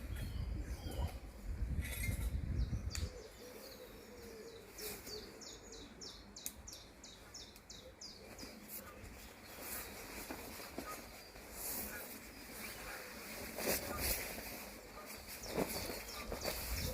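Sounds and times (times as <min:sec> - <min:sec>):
songbird singing: 0:00.0 - 0:16.9.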